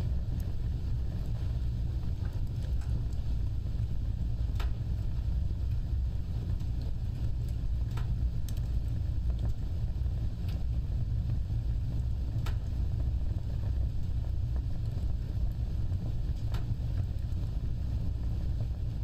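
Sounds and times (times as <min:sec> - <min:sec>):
fire crackles and pops: 0:00.0 - 0:19.0
wood fire rumbling: 0:00.0 - 0:19.0.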